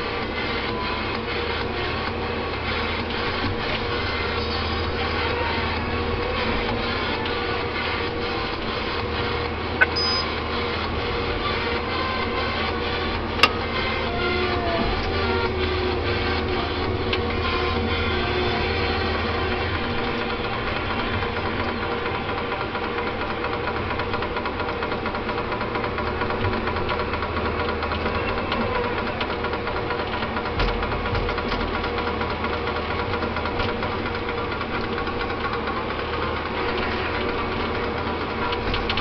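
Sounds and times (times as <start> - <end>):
forest machine engine and hydraulics: 0.0 - 39.0.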